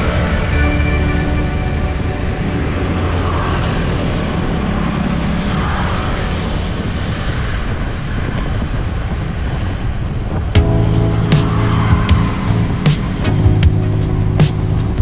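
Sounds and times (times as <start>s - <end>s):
passing traffic: 0.0s - 15.0s
wind: 0.0s - 15.0s.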